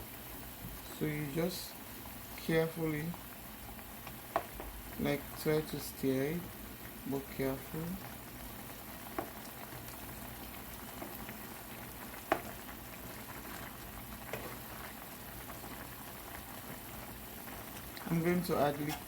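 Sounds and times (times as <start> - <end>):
pot boiling and bubbling: 0.0 - 19.0.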